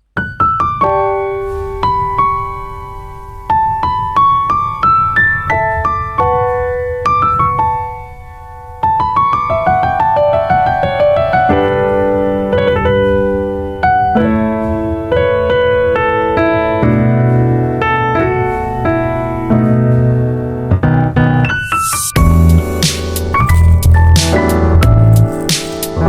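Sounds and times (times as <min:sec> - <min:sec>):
piano music: 0:00.2 - 0:26.0.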